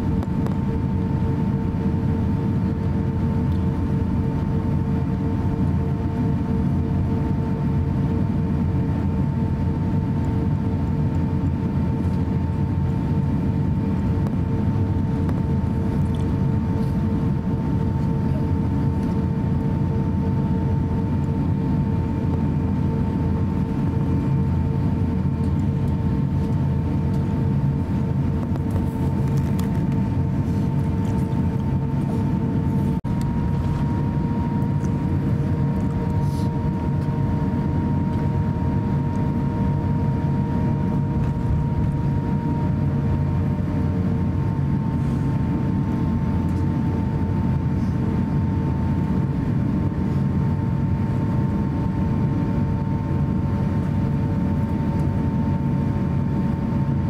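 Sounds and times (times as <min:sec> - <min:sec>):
aircraft cabin engine rumble: 0:00.0 - 0:57.0
faint engine whine: 0:00.0 - 0:57.0.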